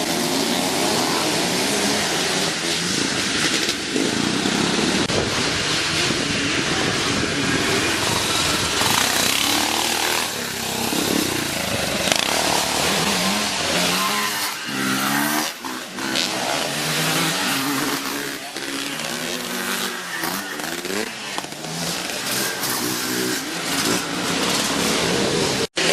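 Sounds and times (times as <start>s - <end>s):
motocross motorcycles revving: 0.0s - 25.9s.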